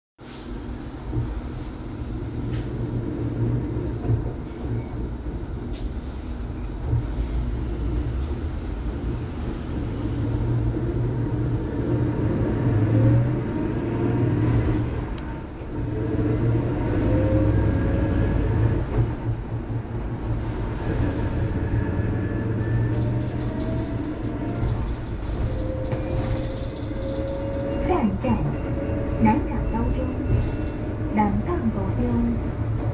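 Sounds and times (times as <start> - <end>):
bus interior low rumble: 0.2 - 32.9.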